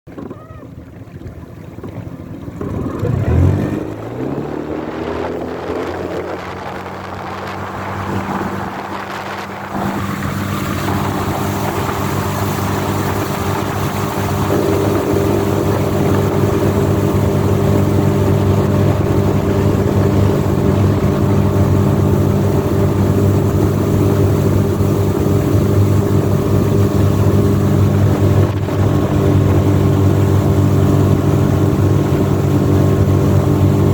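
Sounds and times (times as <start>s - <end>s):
wind: 0.0s - 33.9s
outboard motor running: 0.1s - 33.9s.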